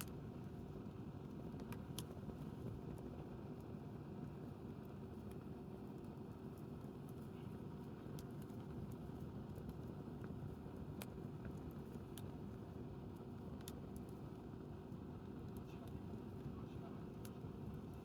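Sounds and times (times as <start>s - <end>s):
campfire crackles and pops: 0.0s - 18.0s
fire low rumble: 0.0s - 18.0s.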